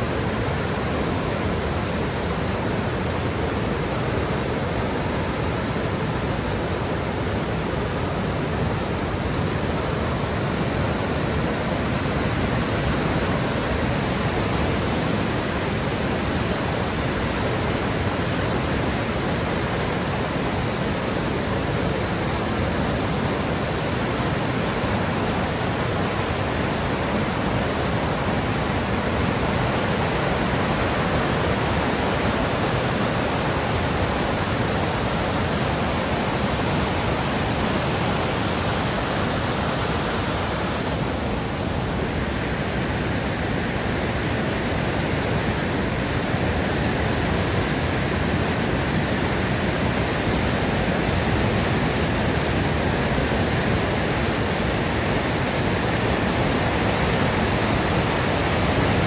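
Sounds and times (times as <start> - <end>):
whitewater rapids rushing: 0.0 - 59.0.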